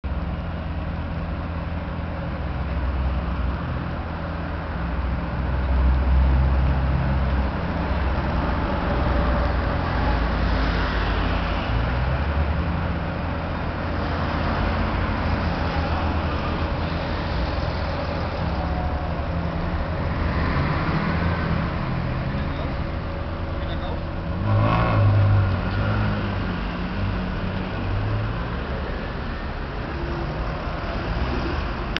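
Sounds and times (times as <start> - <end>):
car engine rumbling: 0.0 - 31.9
street traffic: 0.0 - 31.9.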